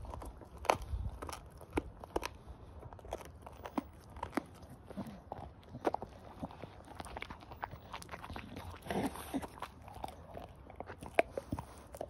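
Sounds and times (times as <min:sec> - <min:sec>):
dog chewing bone: 0:00.0 - 0:12.0.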